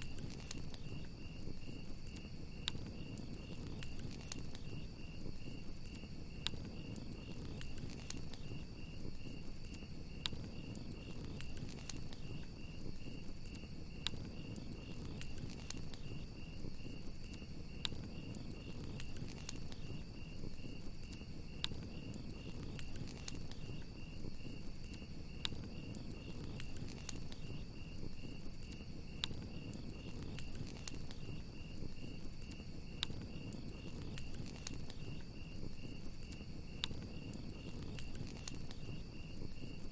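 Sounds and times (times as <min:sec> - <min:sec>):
burning wood popping: 0:00.0 - 0:39.9
crackling campfire: 0:00.0 - 0:39.9
crickets chirping: 0:00.0 - 0:39.9.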